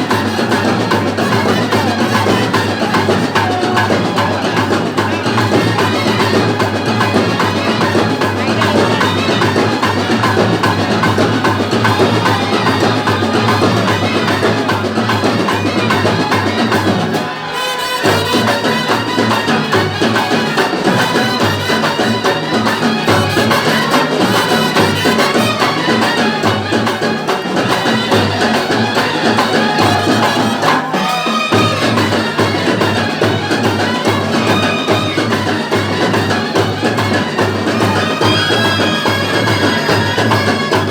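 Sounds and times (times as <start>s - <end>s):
drum-led percussion music: 0.0s - 40.9s.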